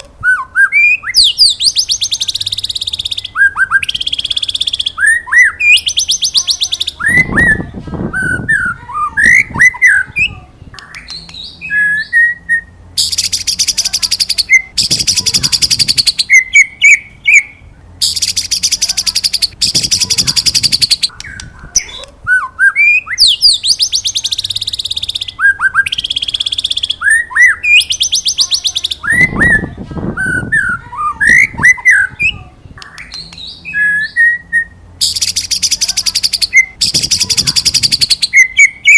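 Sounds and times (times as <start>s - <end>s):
bird singing whistles and trills: 0.2s - 21.5s, 22.3s - 38.9s.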